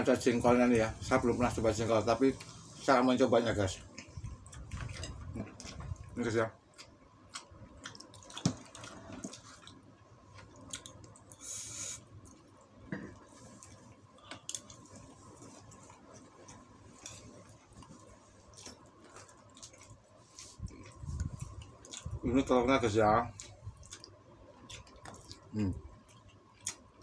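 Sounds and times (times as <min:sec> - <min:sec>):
soft wet chewing: 0:03.6 - 0:22.5, 0:23.3 - 0:27.0.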